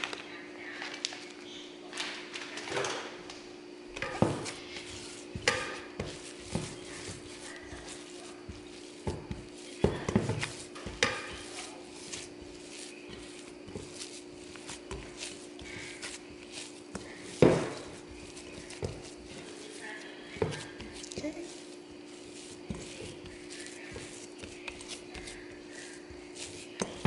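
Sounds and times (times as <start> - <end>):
steady low hum: 0.2 - 27.0
dough squishing: 3.9 - 27.0.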